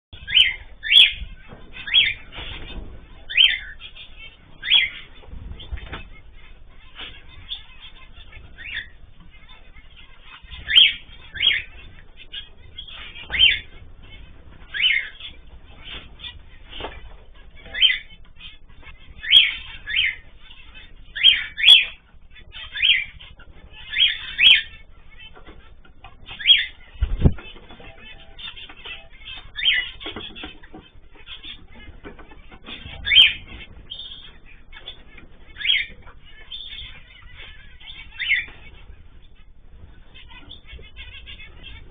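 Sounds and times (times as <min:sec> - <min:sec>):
birds chirping and chattering: 0:00.1 - 0:41.9
caged birds calling sharply: 0:00.2 - 0:41.9.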